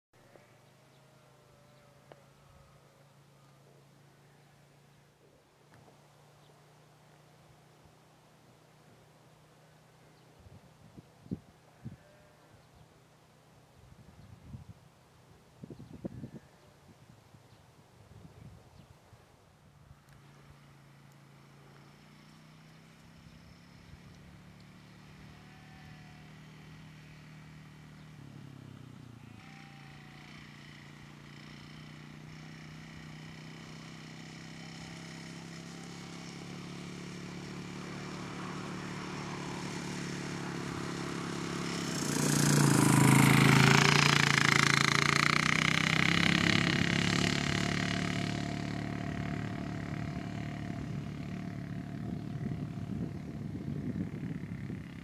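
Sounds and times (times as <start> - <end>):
quad bike engine passing: 0.2 - 16.7, 18.0 - 55.0.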